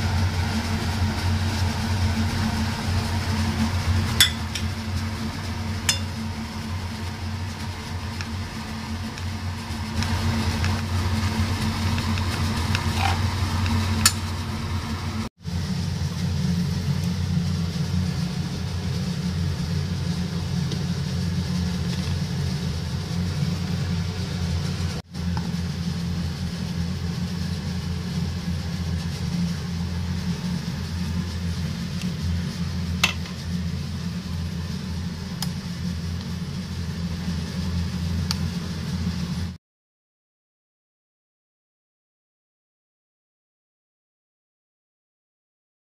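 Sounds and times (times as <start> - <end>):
electric motor hum: 0.0 - 39.4.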